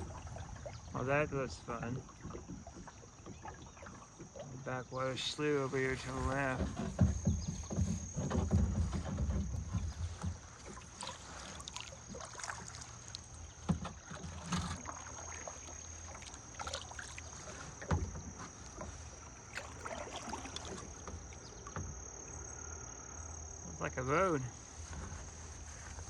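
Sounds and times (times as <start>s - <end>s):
paddle splashing in water: 0.0s - 26.0s.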